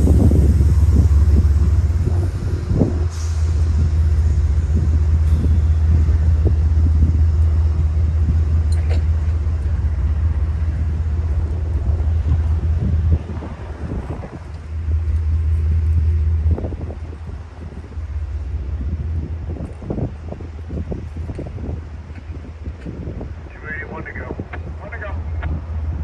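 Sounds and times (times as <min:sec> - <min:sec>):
engine low rumble: 0:00.0 - 0:26.0.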